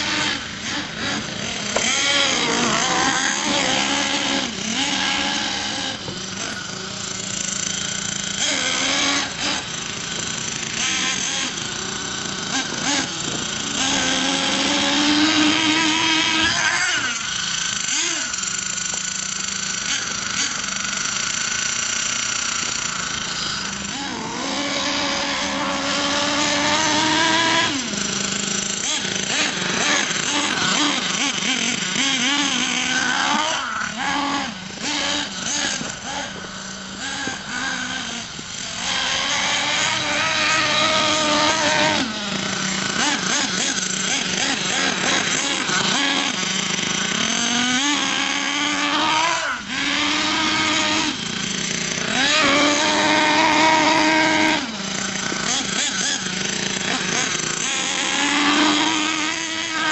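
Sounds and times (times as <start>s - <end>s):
small nitro engine revving: 0.0s - 59.9s.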